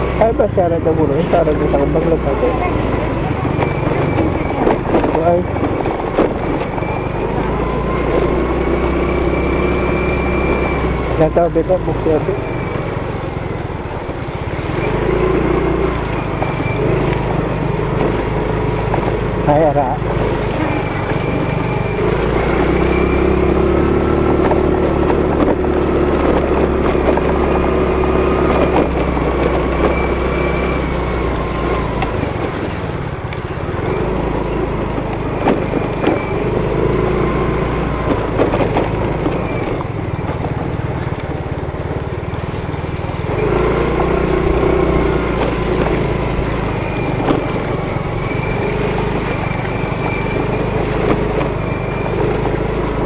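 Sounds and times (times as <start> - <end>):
knocks and rattles from bumps: 0.0 - 53.0
motorcycle engine running: 0.0 - 53.0.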